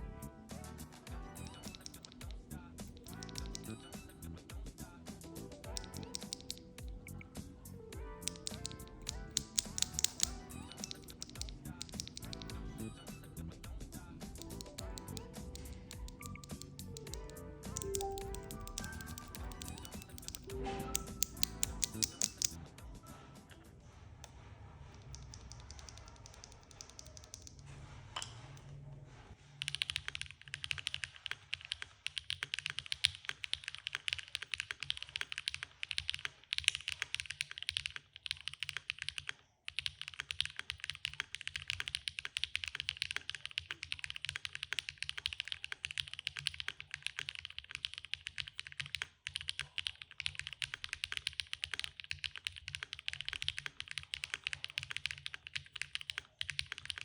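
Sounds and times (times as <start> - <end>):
fast typing on keyboard: 1.3 - 4.2, 5.5 - 7.1, 8.2 - 22.6, 25.0 - 27.6, 29.6 - 57.0.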